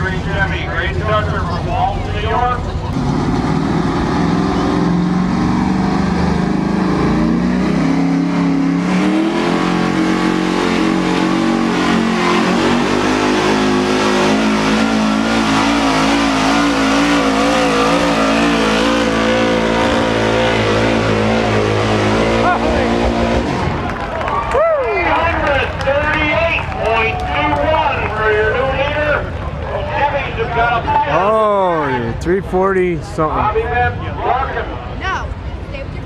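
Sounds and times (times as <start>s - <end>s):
truck engine at full throttle: 0.0s - 36.0s.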